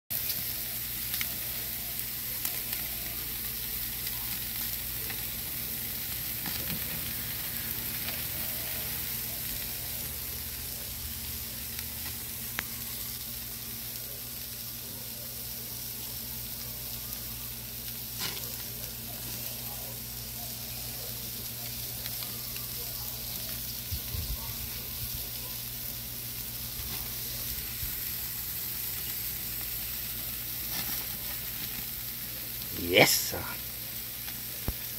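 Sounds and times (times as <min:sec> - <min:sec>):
steaks sizzling on a grill: 0:00.1 - 0:34.9.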